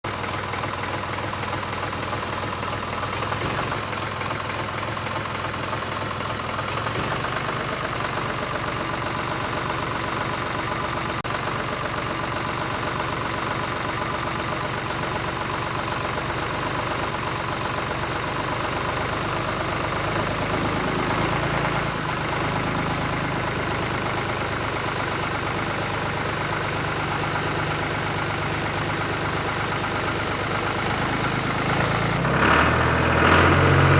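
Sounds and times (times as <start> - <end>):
toy tractor engine idling: 0.0 - 32.2.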